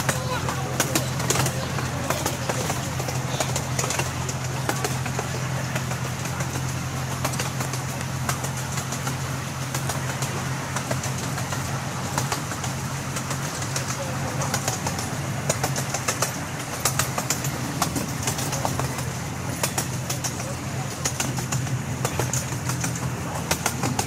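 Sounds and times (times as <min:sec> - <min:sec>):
locomotive engine drone: 0:00.0 - 0:24.0
wheels clicking and rattling: 0:00.0 - 0:24.0.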